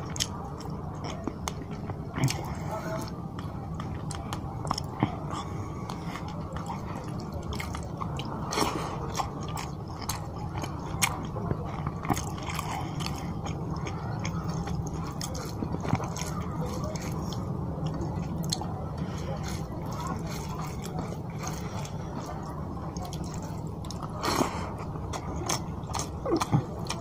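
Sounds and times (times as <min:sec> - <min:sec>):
chewing and wet mouth sounds: 0:00.0 - 0:27.0
steady low hum: 0:00.0 - 0:27.0.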